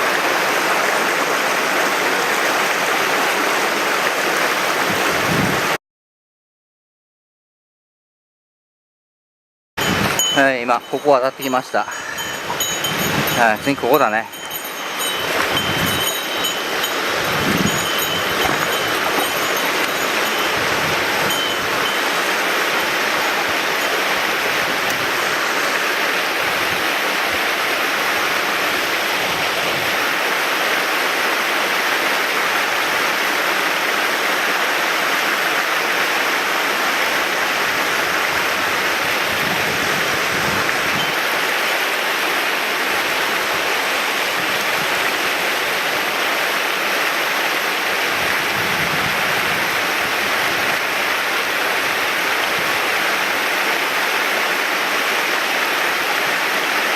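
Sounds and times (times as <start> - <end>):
stream rushing over rocks: 0.0 - 5.8, 9.8 - 56.9.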